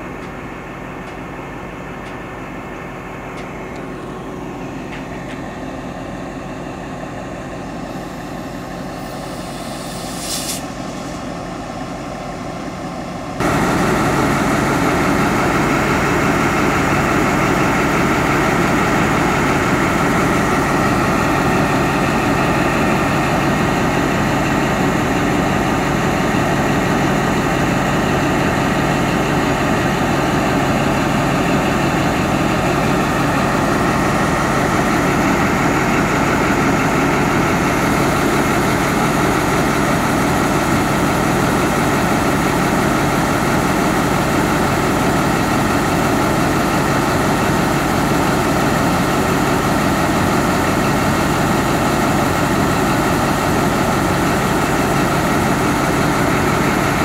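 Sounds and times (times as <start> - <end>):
diesel locomotive engine idling: 0.0 - 57.0.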